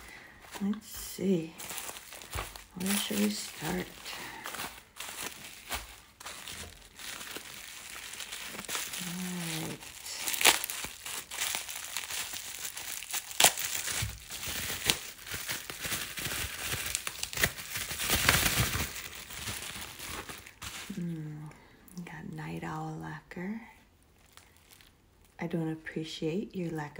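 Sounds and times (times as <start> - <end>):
packaging crinkling and tearing: 0.0 - 21.2, 24.1 - 25.4.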